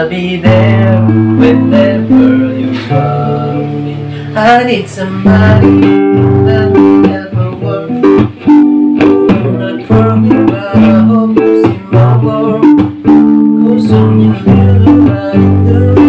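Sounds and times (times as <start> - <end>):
acoustic guitar through amplifier: 0.0 - 16.0
man singing: 0.0 - 16.0.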